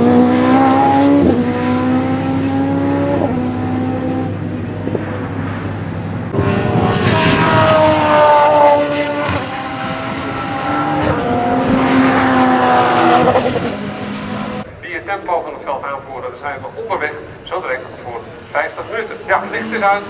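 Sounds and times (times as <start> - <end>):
race car engine: 0.0 - 14.8, 17.1 - 20.0.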